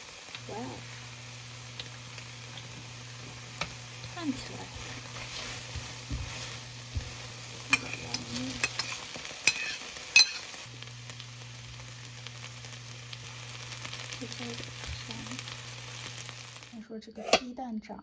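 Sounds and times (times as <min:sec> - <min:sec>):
food sizzling in a pan: 0:00.0 - 0:17.4.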